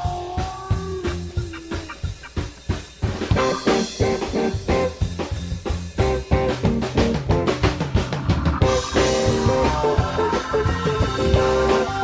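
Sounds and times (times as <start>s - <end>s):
drum kit: 0.0s - 12.0s
rock band playing live: 0.0s - 12.0s.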